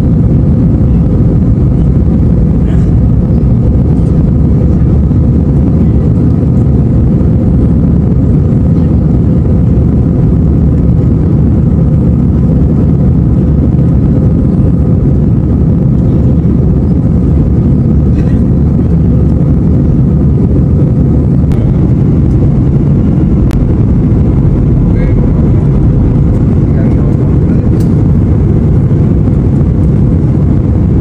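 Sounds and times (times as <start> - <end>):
jet cabin engine rumble: 0.0 - 31.0.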